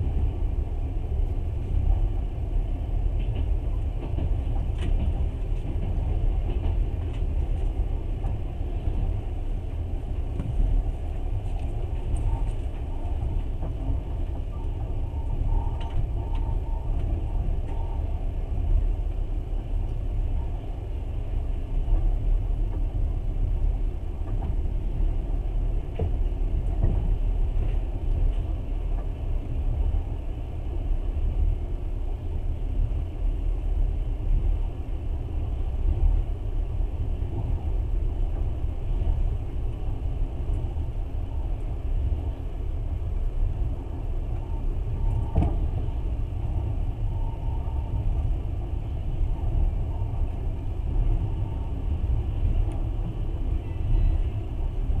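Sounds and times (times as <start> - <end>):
moving train rumble: 0.0 - 55.0.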